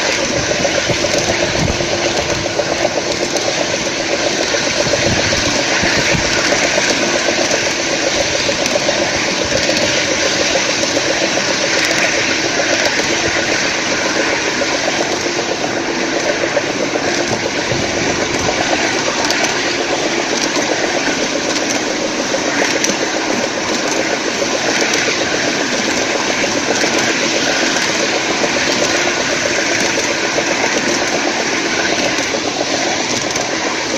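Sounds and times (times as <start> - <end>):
model diesel locomotive running: 0.0 - 33.9.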